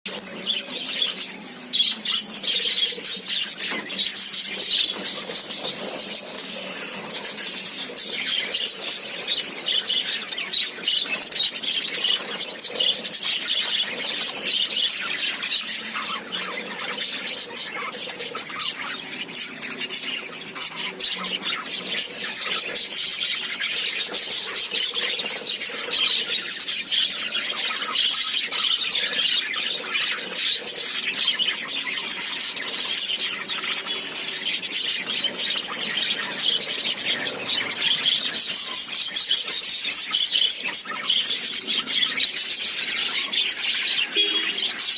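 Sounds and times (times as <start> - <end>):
parrots chattering and chirping: 0.1 - 44.9.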